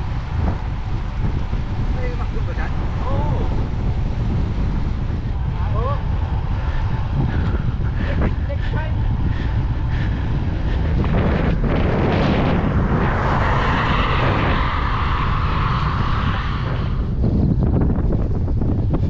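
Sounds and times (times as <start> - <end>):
steady whirring: 0.0 - 19.0
wind buffeting microphone: 0.0 - 19.0.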